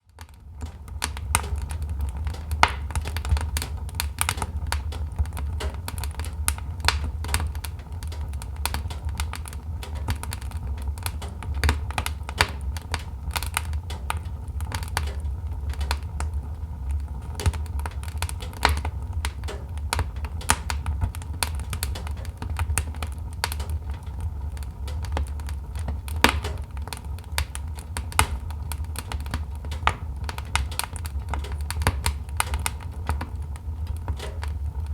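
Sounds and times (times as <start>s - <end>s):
low rumble of flames: 0.0s - 34.9s
wood fire crackling and popping: 0.0s - 34.9s.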